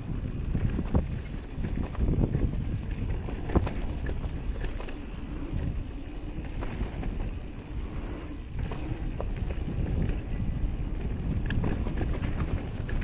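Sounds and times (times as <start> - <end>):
bike knocking and rattling: 0.0 - 13.0
bike tyres rumbling on dirt: 0.0 - 13.0
wind noise: 0.0 - 13.0.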